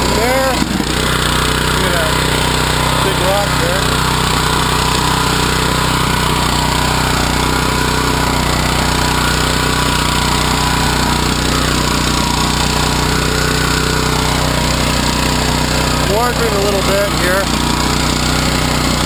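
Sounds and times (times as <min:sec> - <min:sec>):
small petrol engine running: 0:00.0 - 0:19.0
tiller tines churning soil: 0:00.0 - 0:19.0.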